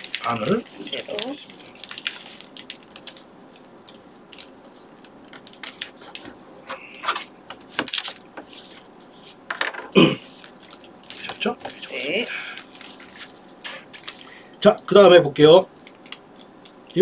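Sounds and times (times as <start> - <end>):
paper rustling and crackling: 0.0 - 9.6, 10.2 - 14.6.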